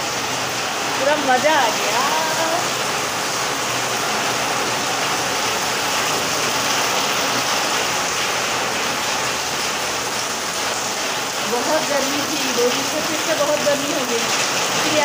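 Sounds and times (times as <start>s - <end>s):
heavy rain on pavement: 0.0s - 15.0s.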